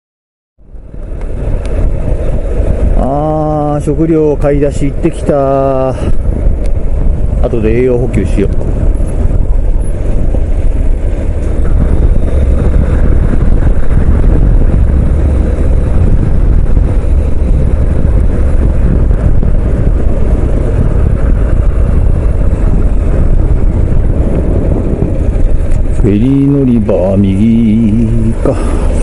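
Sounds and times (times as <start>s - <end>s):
motorcycle engine hum: 0.6s - 29.0s
tyres on road: 0.6s - 29.0s
wind buffeting microphone: 0.6s - 29.0s.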